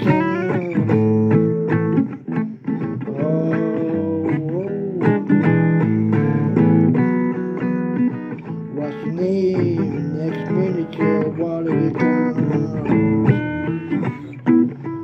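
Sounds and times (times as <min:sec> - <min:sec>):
blues guitar playing: 0:00.0 - 0:15.0.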